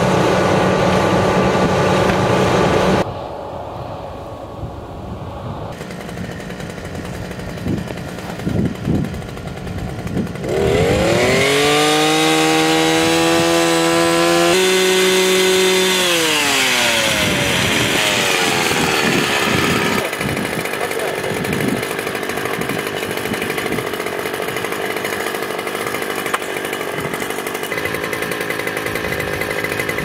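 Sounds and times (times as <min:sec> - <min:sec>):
earth auger engine revving: 0:05.7 - 0:30.0.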